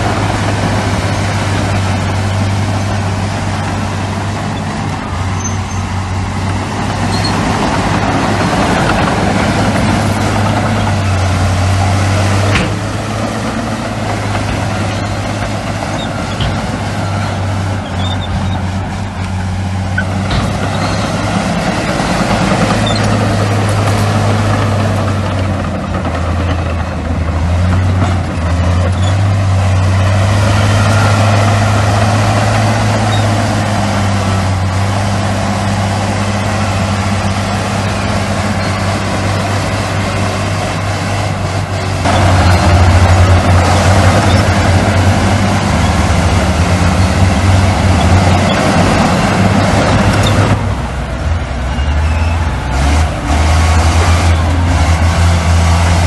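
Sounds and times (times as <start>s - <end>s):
diesel machinery running under load: 0.0s - 56.0s.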